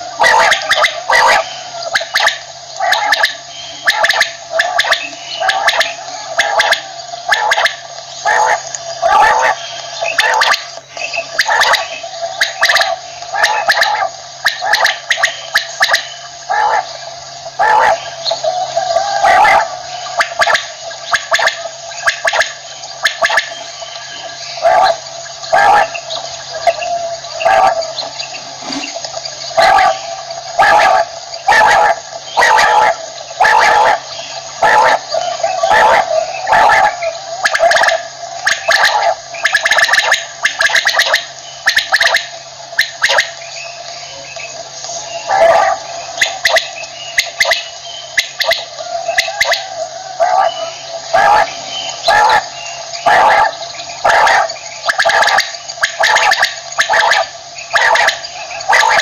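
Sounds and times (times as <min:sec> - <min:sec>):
quail calling: 0:00.0 - 0:59.0.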